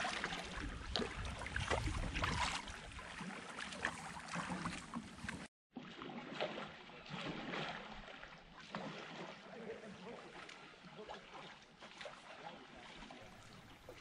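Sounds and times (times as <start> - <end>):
canoe paddles splashing water: 0.0 - 14.0
water along a hull: 0.0 - 14.0.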